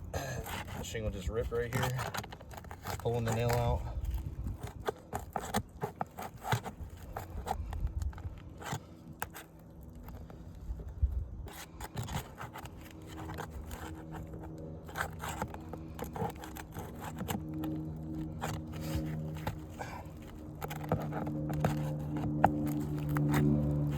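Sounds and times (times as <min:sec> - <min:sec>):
nail puller scraping under shingles: 0:00.0 - 0:23.9.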